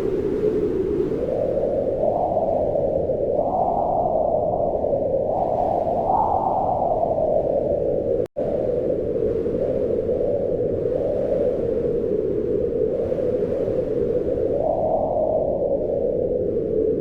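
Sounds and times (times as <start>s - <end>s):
wind blowing in gusts: 0.0s - 17.0s.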